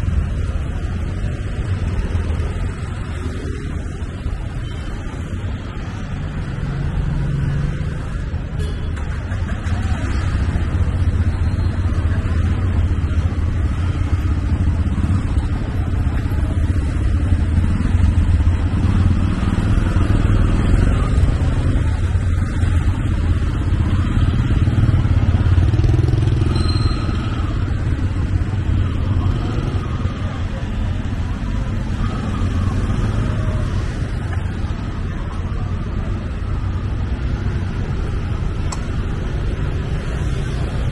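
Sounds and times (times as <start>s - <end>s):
motorcycle engines running: 0.0s - 40.9s
traffic rumble: 0.0s - 40.9s.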